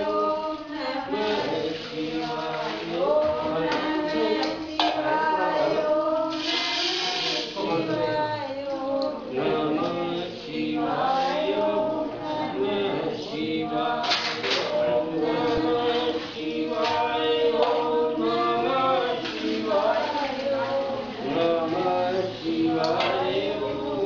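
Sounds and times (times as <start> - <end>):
worshippers singing a chant: 0.0 - 24.0.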